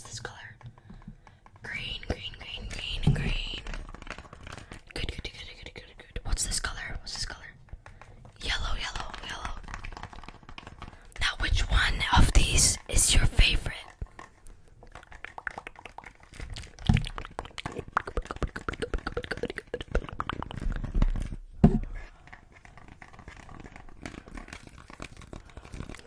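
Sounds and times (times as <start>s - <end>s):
small clicks and crinkling: 0.0s - 11.9s, 12.8s - 26.0s.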